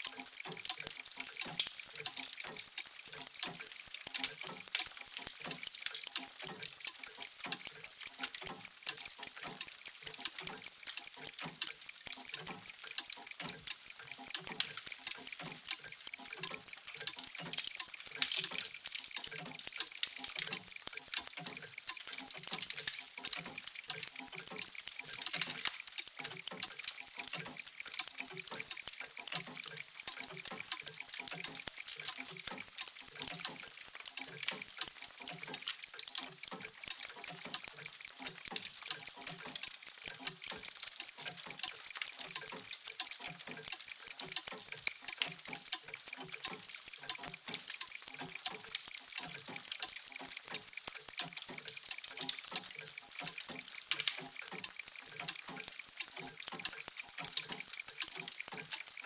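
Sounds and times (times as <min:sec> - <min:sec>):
many clocks ticking: 0:00.0 - 0:59.0.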